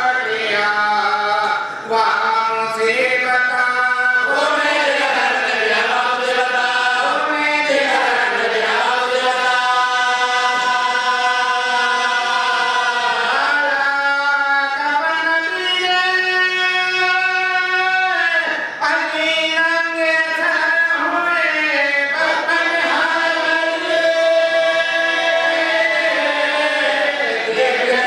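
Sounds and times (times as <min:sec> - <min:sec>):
men chanting a lament: 0:00.0 - 0:28.0.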